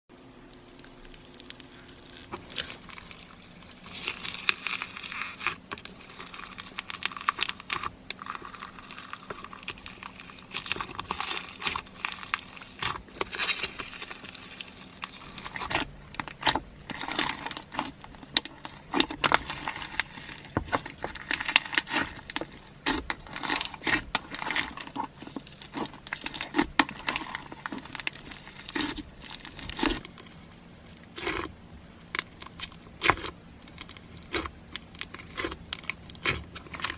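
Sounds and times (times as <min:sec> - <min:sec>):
slime crackling and popping: 0:00.4 - 0:36.9.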